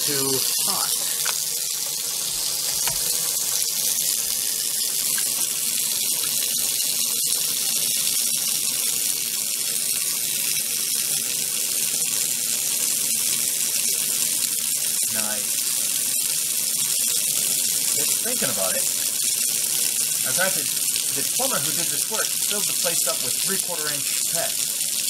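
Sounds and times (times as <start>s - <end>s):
faucet water splashing in sink: 0.0s - 25.0s.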